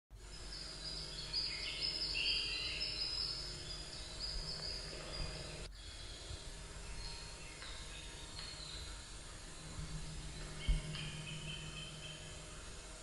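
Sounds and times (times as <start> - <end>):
birds singing: 0.2 - 13.0
low outdoor rumble: 0.2 - 13.0.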